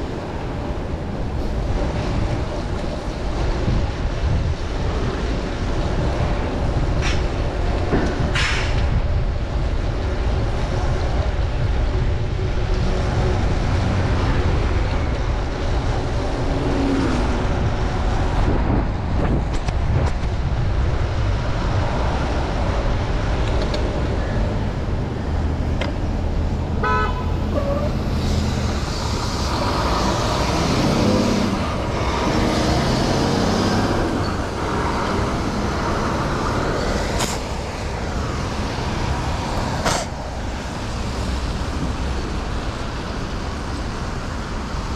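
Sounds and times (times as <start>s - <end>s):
city street traffic: 0.0s - 44.9s
vehicles passing on wet road: 0.0s - 44.9s.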